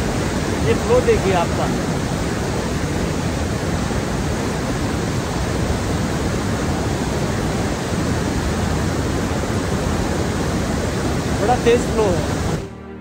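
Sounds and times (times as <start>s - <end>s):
white water rushing over boulders: 0.0s - 12.6s.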